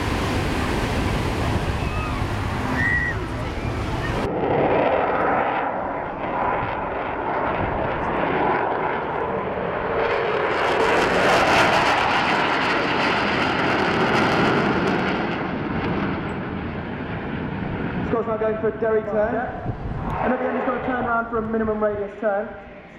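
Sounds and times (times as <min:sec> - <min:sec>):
aircraft engine flying past: 0:00.0 - 0:22.9.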